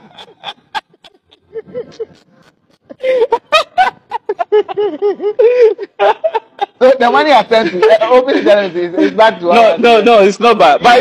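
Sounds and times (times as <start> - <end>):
men laughing heartily: 0.0 - 11.0.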